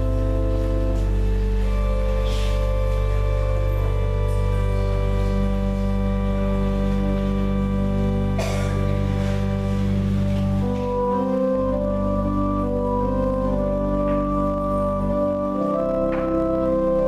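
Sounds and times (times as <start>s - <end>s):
church organ chords: 0.0s - 17.0s.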